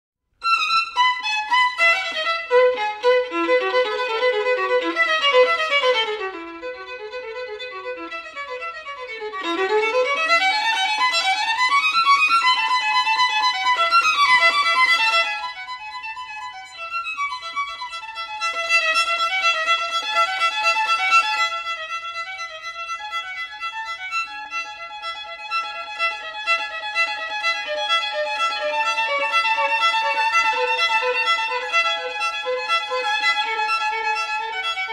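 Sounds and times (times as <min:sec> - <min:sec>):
violin music: 0:00.4 - 0:34.9.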